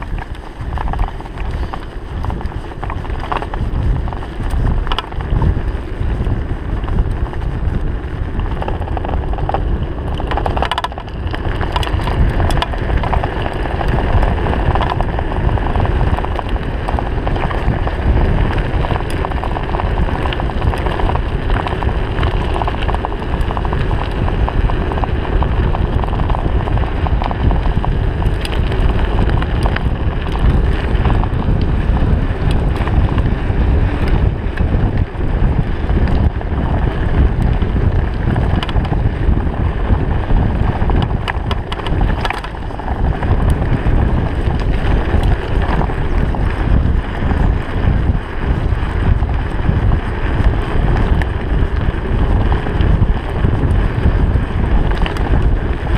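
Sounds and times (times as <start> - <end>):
rattles and clicks of stones: 0.0 - 55.9
tyres rumbling on gravel: 0.0 - 55.9
wind buffeting microphone: 0.0 - 55.9.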